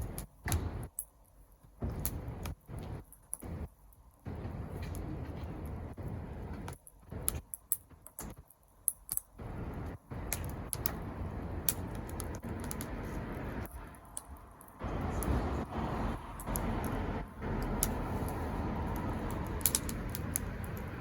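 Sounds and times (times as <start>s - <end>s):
wood fire crackling and popping: 0.0s - 21.0s
low uneven rushing noise: 1.8s - 7.4s, 9.4s - 21.0s.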